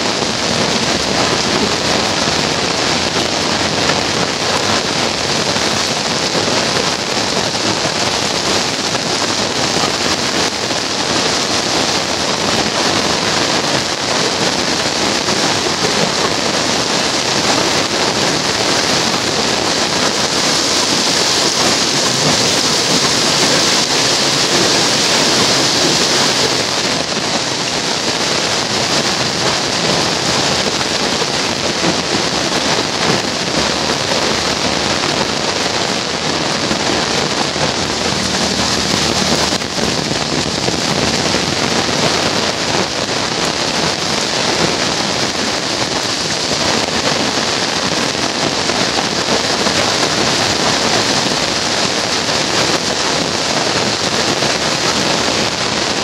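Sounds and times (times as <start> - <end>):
heavy rain on pavement: 0.0 - 56.0.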